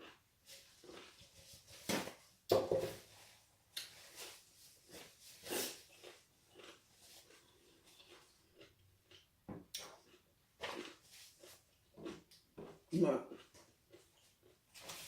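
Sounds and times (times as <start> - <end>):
person biting and chewing: 0.0 - 1.2, 3.8 - 15.0.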